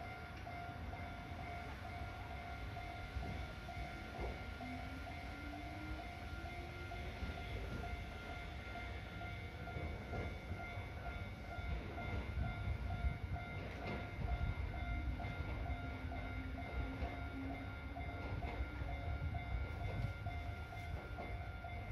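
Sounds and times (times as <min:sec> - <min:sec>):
train rumbling and knocking on track: 0:00.0 - 0:21.9.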